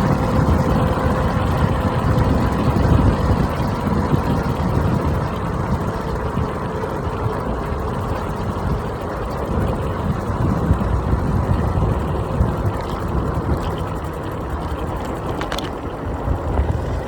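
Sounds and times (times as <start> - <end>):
scooter tyre and road noise: 0.0 - 17.0
wind buffeting microphone: 0.0 - 17.0.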